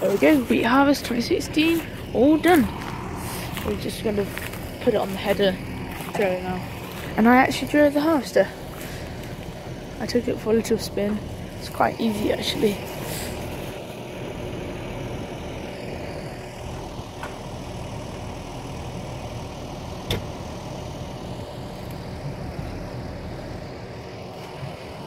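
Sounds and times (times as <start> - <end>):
machinery engine idling: 0.0 - 25.0.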